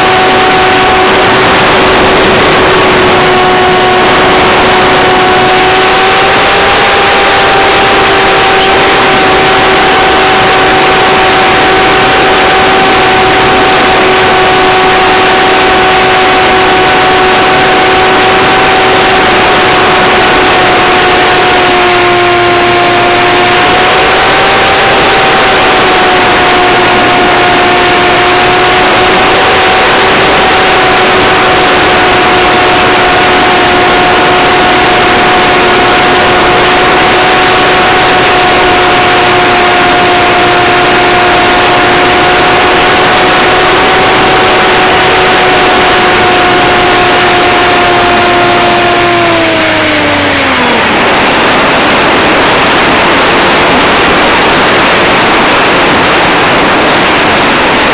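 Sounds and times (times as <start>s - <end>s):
model airplane motor whine: 0.0s - 57.9s
rushing air: 0.0s - 57.9s.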